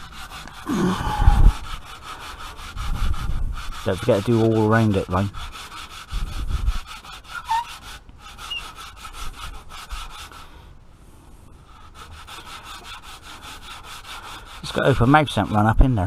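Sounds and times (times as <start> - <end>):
sandpaper scraping metal pipe: 0.0 - 10.6, 11.6 - 16.0.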